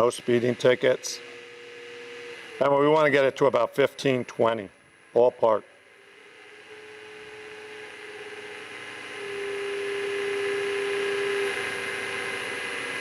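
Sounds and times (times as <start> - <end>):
wood lathe motor whining: 0.0 - 13.0.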